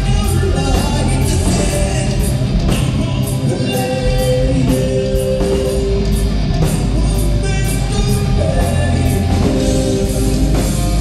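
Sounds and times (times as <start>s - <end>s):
electric guitars: 0.0s - 11.0s
steady drum beat: 0.0s - 11.0s.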